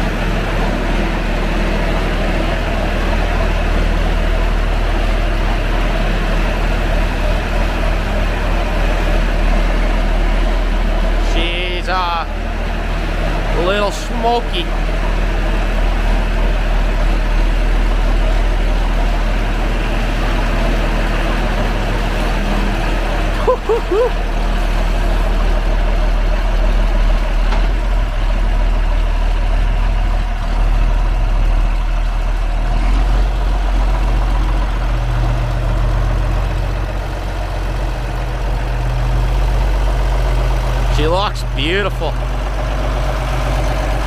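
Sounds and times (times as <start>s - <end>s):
tractor diesel engine droning: 0.0s - 44.0s.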